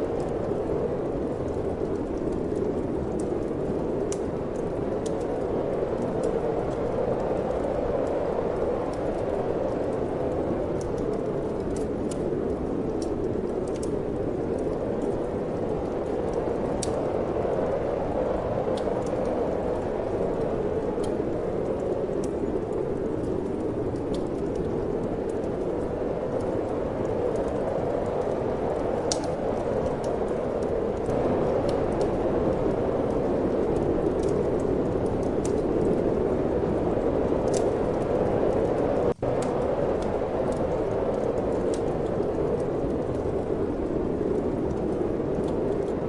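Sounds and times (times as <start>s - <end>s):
wind: 0.0s - 46.0s
wood fire crackling: 0.0s - 46.0s.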